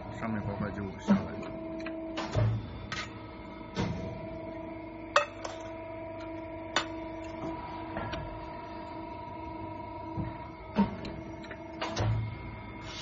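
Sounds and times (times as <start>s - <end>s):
hydraulic pump hum: 0.0s - 13.0s.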